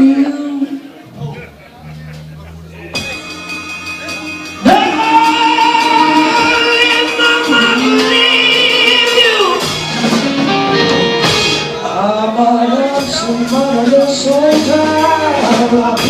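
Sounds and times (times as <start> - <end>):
rock band playing slow soul song: 0.0 - 16.0.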